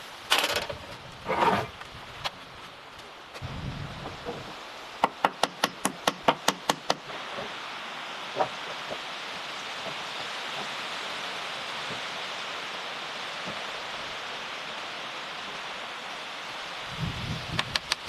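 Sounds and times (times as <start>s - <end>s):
steady rushing hiss: 0.0s - 18.0s.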